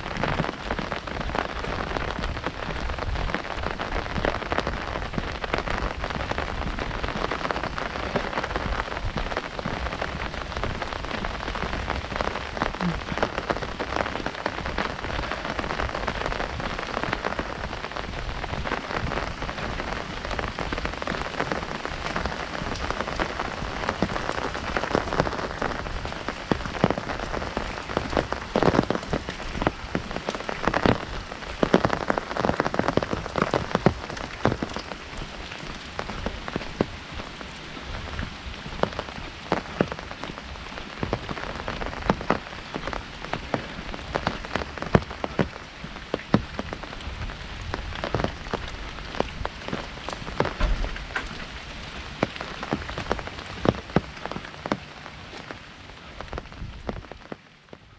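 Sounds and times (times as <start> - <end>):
heavy rain on umbrella: 0.0 - 57.9.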